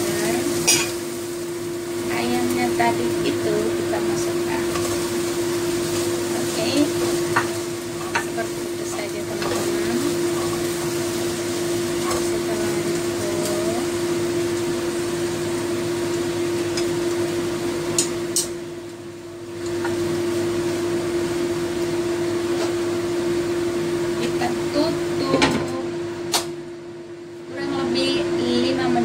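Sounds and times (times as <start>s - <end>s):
meat sizzling in a wok: 0.0s - 25.2s
steady hum: 0.0s - 29.0s.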